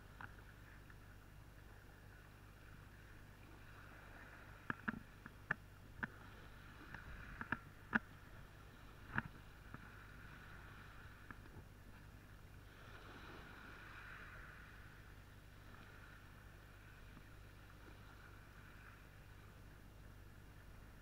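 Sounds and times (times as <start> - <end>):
wind and sea hiss: 0.0 - 21.0.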